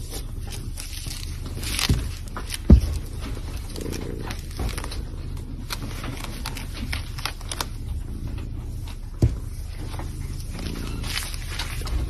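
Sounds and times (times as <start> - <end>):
kitten chewing paper: 0.0 - 12.0
low steady hum: 0.0 - 12.0
paper crinkling and scratching: 0.0 - 12.0.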